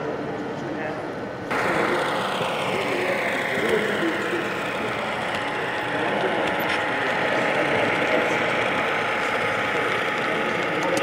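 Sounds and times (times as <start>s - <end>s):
model train motor whirring: 1.5s - 11.0s.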